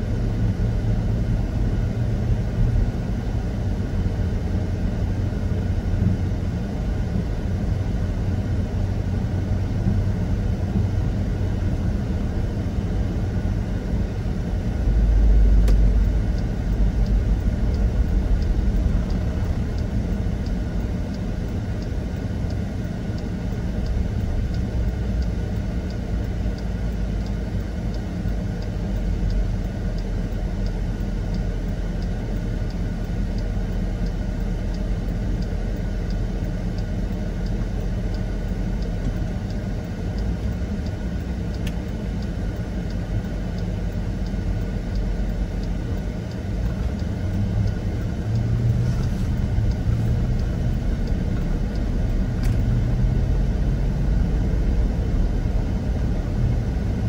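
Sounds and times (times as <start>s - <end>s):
vehicle rumble: 0.0s - 57.0s.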